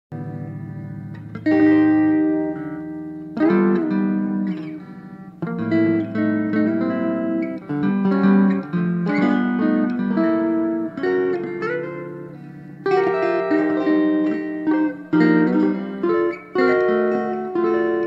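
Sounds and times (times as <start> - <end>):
electric guitar chords ringing: 0.1 - 18.0.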